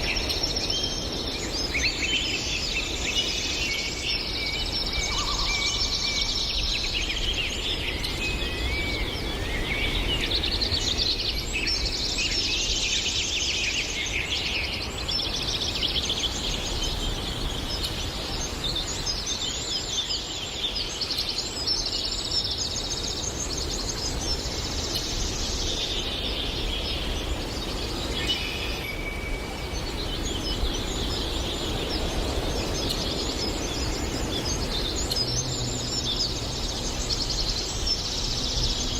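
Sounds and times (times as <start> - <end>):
many birds singing and chirping: 0.0 - 38.9.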